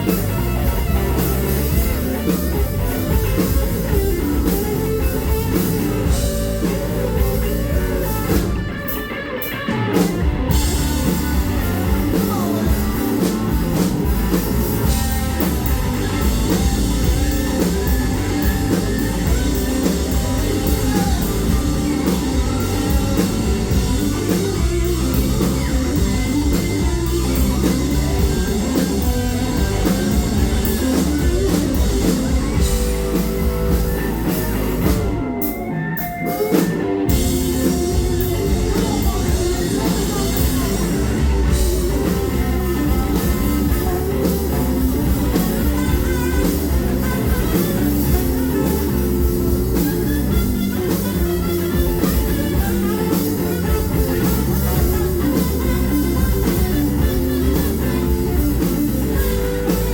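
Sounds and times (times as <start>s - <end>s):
drum kit: 0.0s - 59.9s
electric guitars: 0.0s - 59.9s.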